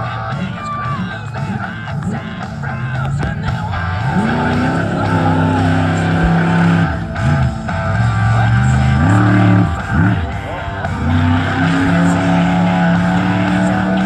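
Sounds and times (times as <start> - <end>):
monster truck engine revving: 0.0 - 14.0
rock music: 0.0 - 14.0.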